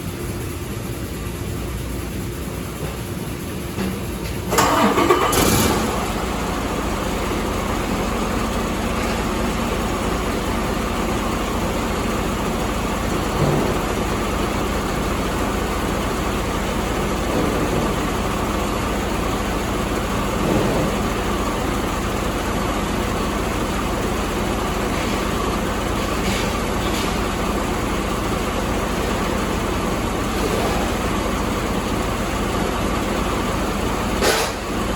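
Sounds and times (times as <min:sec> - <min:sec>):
diesel engine starting and idling: 0:00.0 - 0:34.9.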